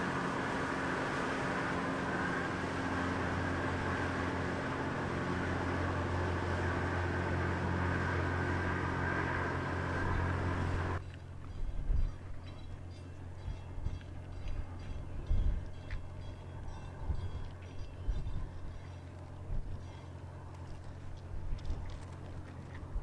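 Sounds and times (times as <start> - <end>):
ship engine droning: 0.0 - 23.0.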